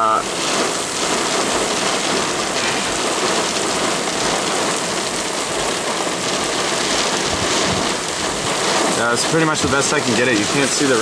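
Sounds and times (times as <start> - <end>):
heavy rain hissing: 0.0 - 11.0
low rumbling wind: 0.0 - 11.0.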